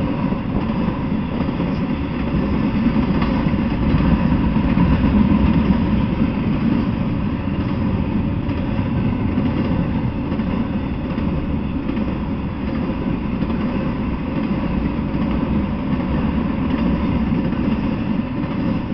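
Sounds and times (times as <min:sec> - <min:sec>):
train wheels rolling on rails: 0:00.0 - 0:18.9.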